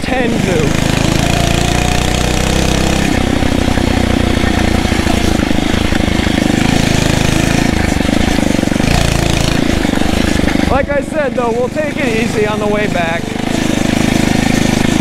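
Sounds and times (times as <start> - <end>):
motorized bicycle engine running: 0.0 - 15.0.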